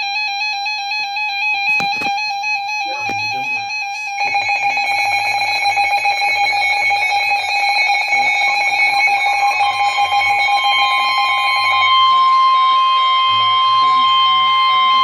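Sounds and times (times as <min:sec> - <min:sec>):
lower electronic alarm tone: 0:00.0 - 0:15.0
higher steady alert tone: 0:01.7 - 0:15.0.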